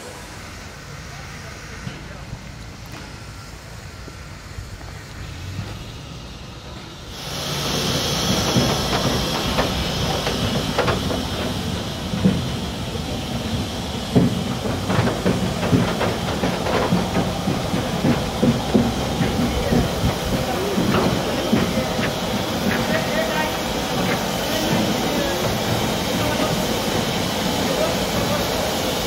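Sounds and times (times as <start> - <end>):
locomotive steam hiss: 0.0 - 29.0.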